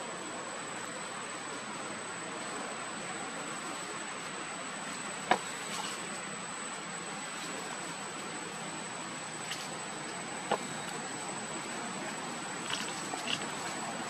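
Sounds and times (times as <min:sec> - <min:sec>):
high-pitched whine: 0:00.0 - 0:14.0
insect drone: 0:00.0 - 0:14.0.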